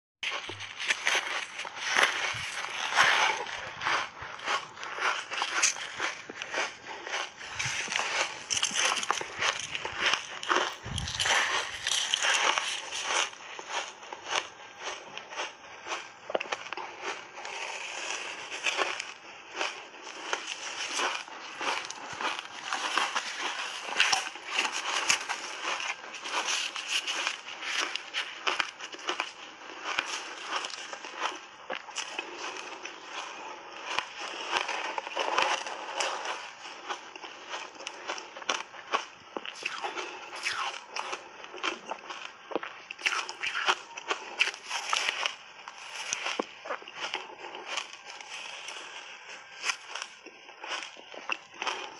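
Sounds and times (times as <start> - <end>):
shaved ice crunching: 0.2 - 51.9.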